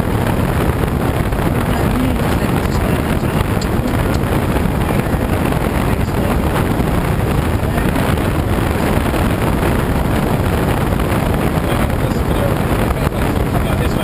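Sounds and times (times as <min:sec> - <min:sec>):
air rushing over canopy: 0:00.0 - 0:14.0
wind buffeting microphone: 0:00.0 - 0:14.0.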